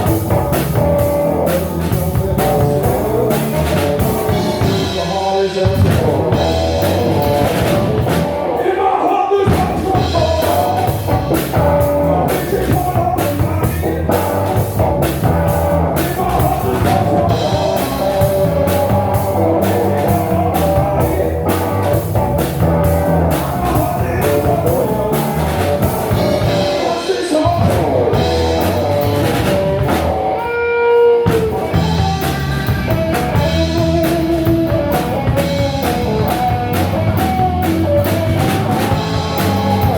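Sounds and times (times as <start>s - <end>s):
drum kit beat: 0.0s - 39.9s
electric guitar: 0.0s - 39.9s
live blues band: 0.0s - 39.9s.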